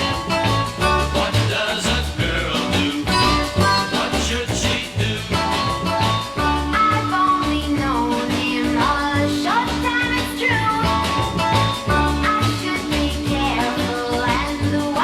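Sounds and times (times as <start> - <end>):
pop band playing: 0.0 - 15.0.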